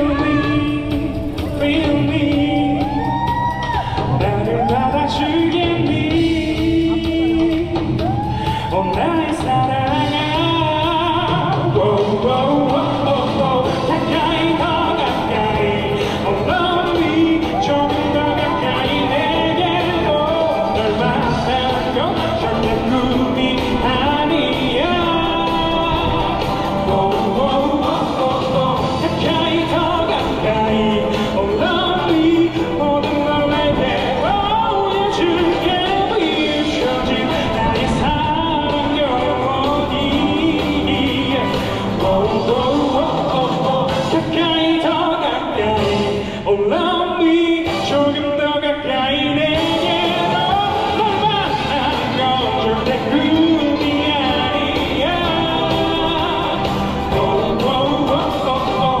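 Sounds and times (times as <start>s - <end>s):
live musical accompaniment: 0.0s - 59.0s
person singing long notes: 0.0s - 59.0s.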